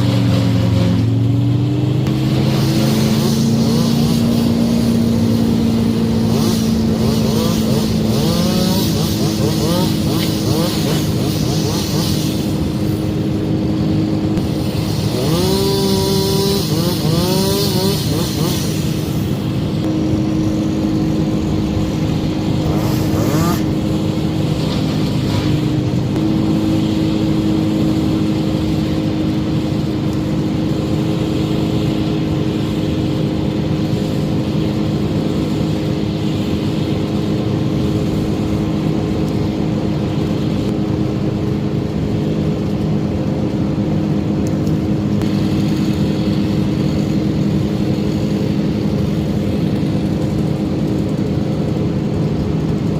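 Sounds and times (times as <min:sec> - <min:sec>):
engine running under load: 0:00.0 - 0:52.9.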